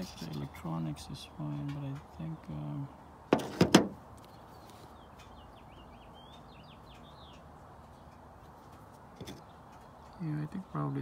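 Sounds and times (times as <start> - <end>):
faint birds chirping: 0.0 - 3.4, 4.0 - 11.0.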